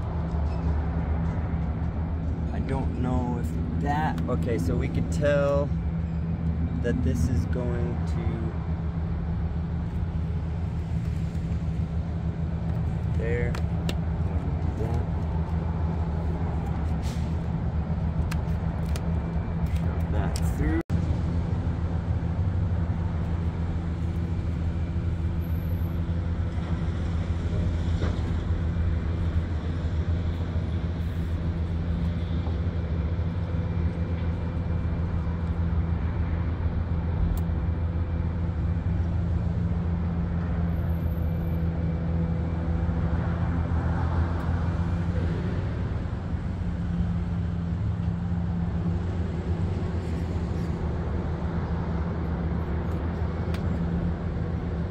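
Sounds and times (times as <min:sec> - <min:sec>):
low mechanical drone: 0:00.0 - 0:54.9.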